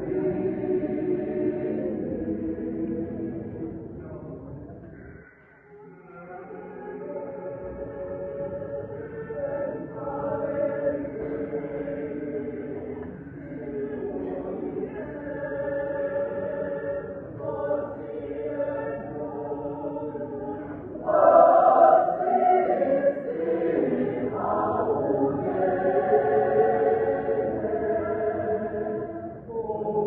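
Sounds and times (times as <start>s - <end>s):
choir singing in harmony: 0.0s - 30.0s.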